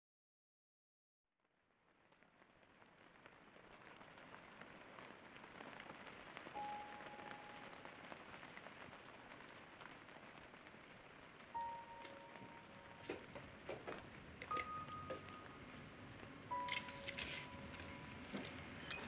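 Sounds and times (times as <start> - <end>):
rain patter: 1.7 - 19.0.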